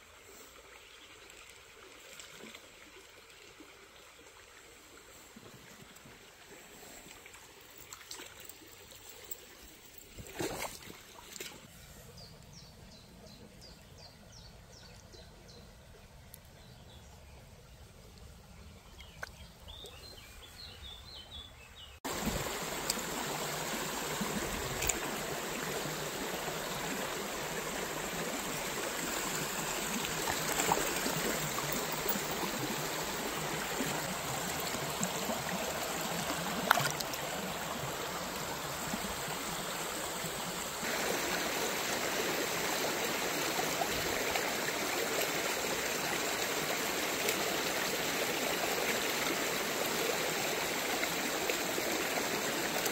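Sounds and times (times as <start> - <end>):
stream running over stones: 0.0 - 52.9.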